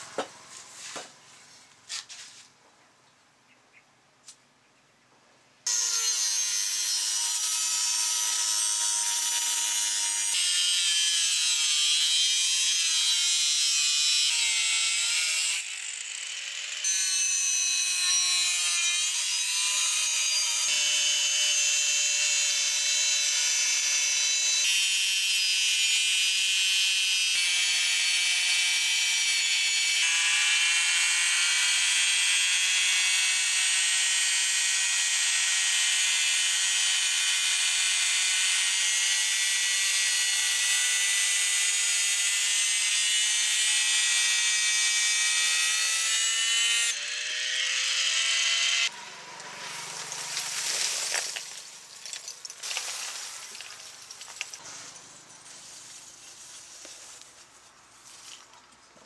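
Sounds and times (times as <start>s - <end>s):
angle grinder cutting metal: 5.7s - 56.6s.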